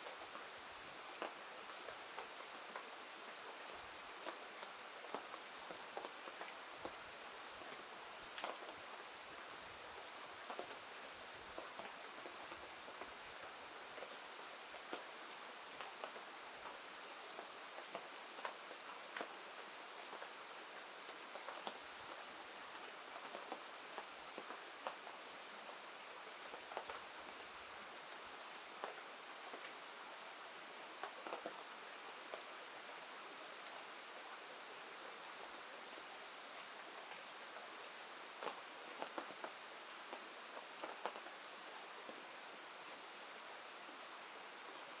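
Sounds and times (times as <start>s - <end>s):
raindrops ticking on surfaces: 0.0s - 45.0s
steady rain falling: 0.0s - 45.0s.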